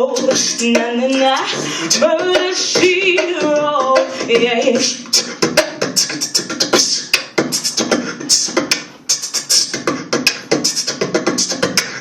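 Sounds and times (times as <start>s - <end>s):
person beatboxing: 0.0s - 12.0s.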